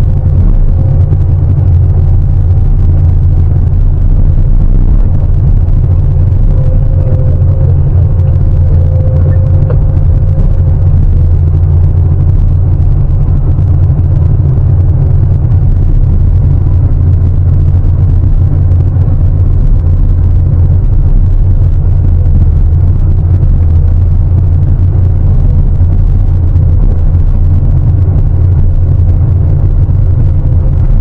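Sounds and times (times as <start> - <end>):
diesel engine rumbling: 0.0 - 31.0
faint whine: 0.0 - 31.0.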